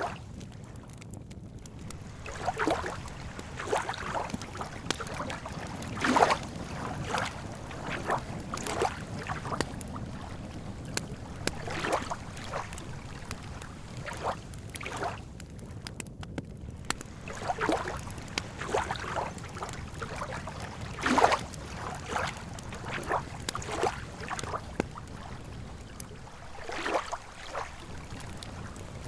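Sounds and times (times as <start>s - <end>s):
waves lapping against shore: 0.0s - 1.0s, 1.6s - 15.7s, 16.6s - 29.0s
campfire crackles: 0.0s - 29.0s.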